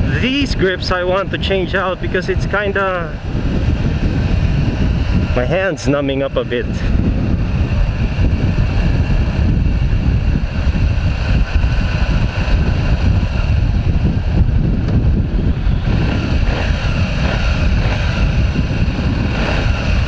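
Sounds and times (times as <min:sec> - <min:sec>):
wind rushing over microphone: 0:00.0 - 0:20.0
motorcycle engine: 0:01.0 - 0:20.0.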